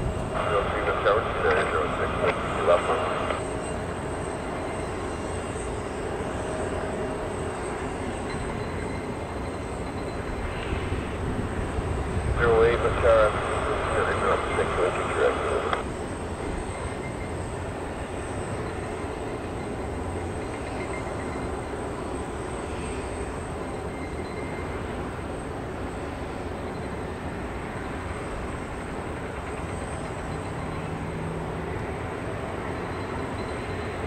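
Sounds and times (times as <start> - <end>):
jet engine noise: 0.0 - 34.0.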